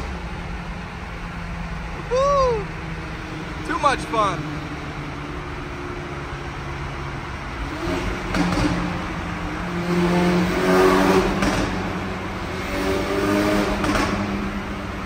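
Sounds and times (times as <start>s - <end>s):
car exhaust accelerating: 0.0s - 15.0s.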